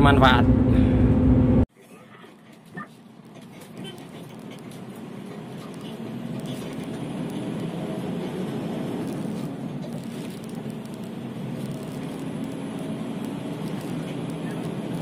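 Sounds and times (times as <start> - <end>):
diesel engine drone in cab: 0.0 - 1.7, 4.0 - 15.0.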